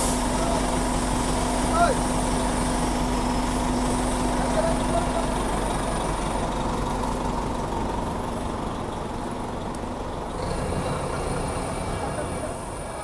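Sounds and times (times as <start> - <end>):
bus engine pulling away: 0.0 - 13.0.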